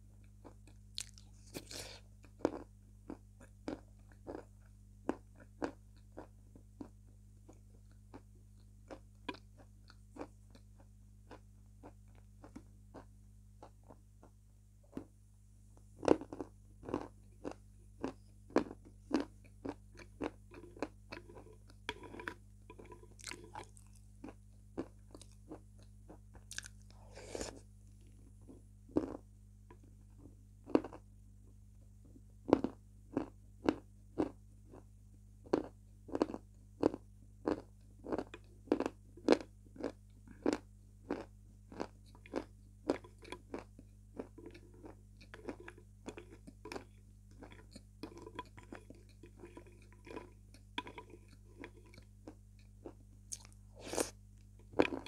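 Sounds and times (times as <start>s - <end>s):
chewing crunchy food: 0.2s - 15.1s, 15.9s - 31.1s, 32.0s - 55.0s.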